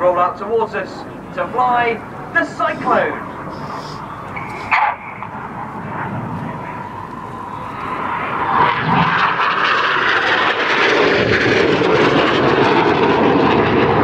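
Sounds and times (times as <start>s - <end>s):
jets flying past: 0.7s - 14.0s.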